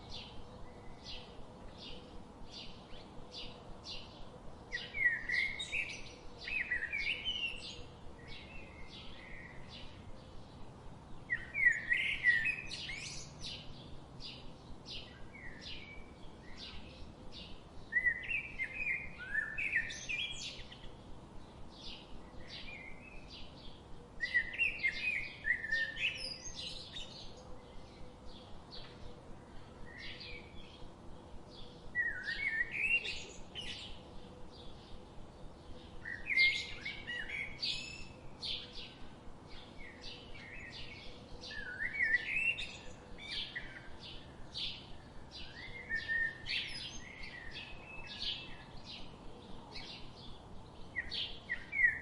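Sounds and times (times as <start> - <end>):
bird chirping: 0.0 - 52.0.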